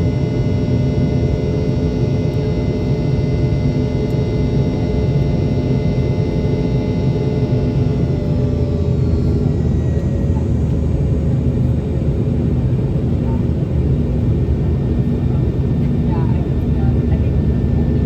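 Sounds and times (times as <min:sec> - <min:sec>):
aircraft cabin engine rumble: 0:00.0 - 0:18.0
steady humming tones: 0:00.0 - 0:18.0.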